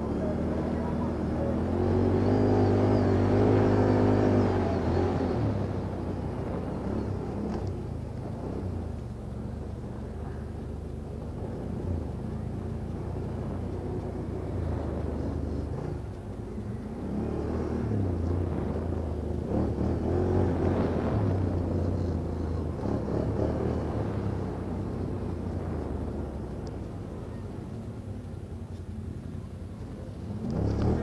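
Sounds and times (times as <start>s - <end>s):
off-road vehicle engine revving: 0.0s - 28.9s, 30.2s - 31.0s.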